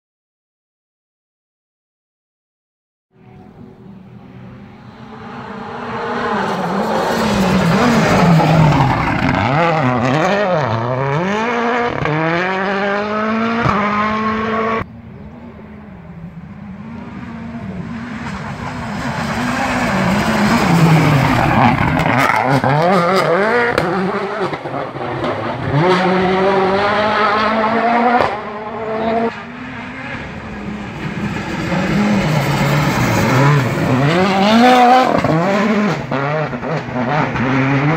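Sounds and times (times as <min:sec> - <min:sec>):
rally car engines revving: 0:03.2 - 0:37.9.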